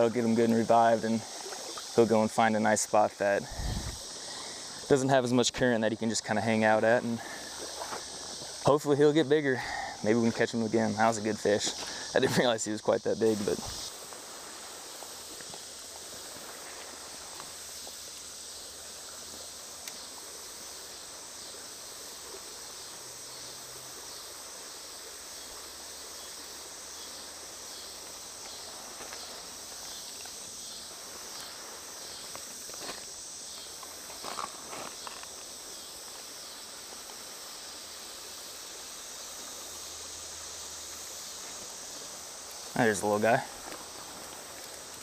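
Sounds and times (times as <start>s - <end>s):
insects chorus: 0.0s - 45.0s.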